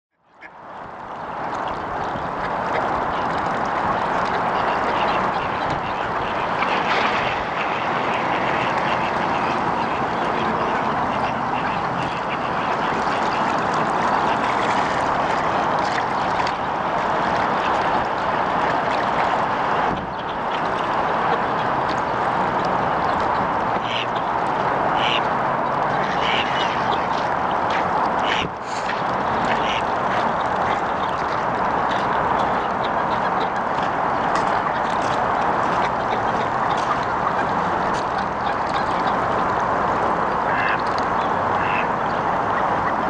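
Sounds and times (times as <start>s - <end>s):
ducks quacking: 1.7s - 39.5s, 40.4s - 43.0s.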